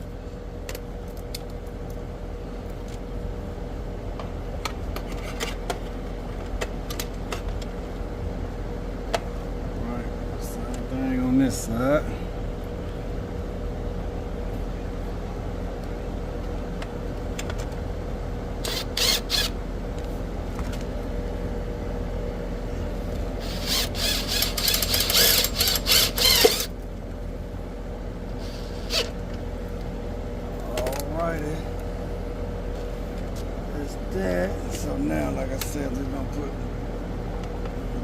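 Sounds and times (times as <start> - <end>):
machinery hum: 0.0 - 38.0.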